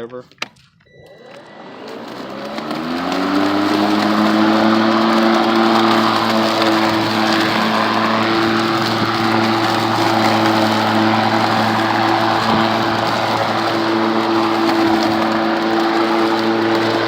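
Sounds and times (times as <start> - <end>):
electric lawn mower whine: 0.9 - 17.0.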